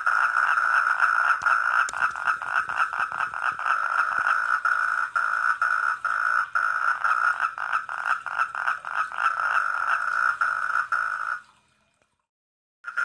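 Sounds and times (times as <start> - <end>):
tree frogs calling: 0.0 - 11.4.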